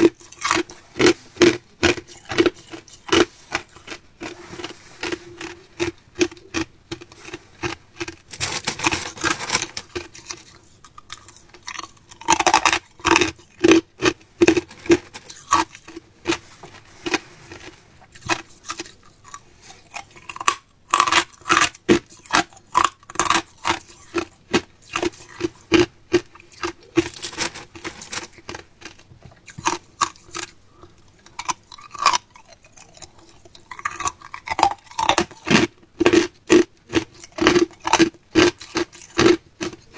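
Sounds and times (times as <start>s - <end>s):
person chewing hard ice: 0.0s - 39.9s.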